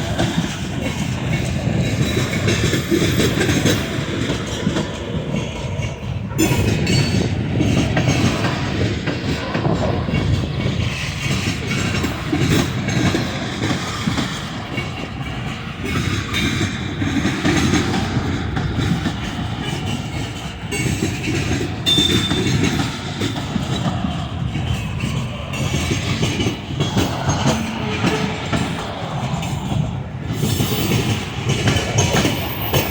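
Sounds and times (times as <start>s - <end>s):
train wheels clattering on rails: 0.0s - 32.9s.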